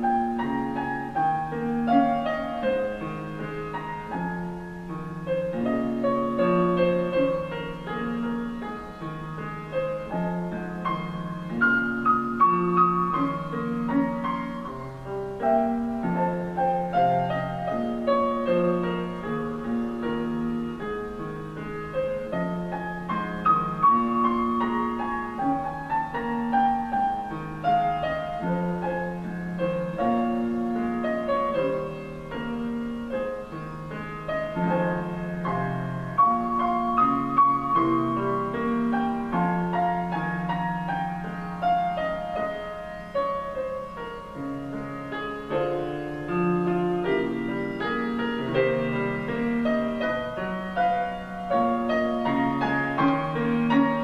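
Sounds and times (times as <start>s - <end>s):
slow solo piano music: 0.0s - 54.0s.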